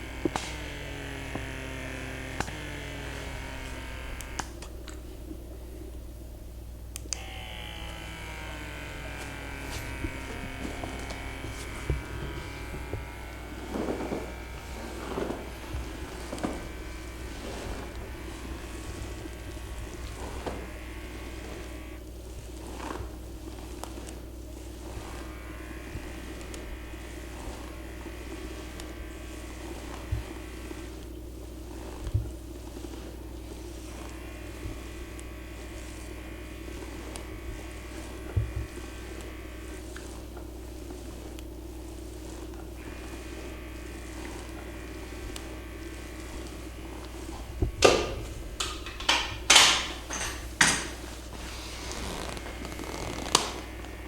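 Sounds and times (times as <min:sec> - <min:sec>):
small motor buzzing: 0:00.0 - 0:05.1, 0:06.9 - 0:54.0
steady low hum: 0:00.0 - 0:54.0.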